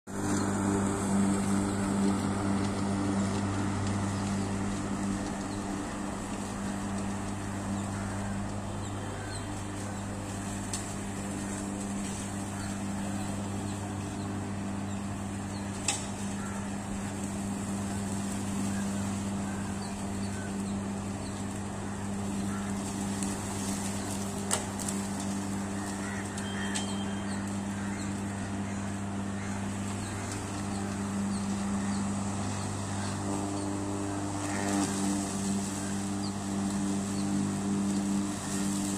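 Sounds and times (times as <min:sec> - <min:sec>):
electric lawn mower humming: 0:00.0 - 0:38.9.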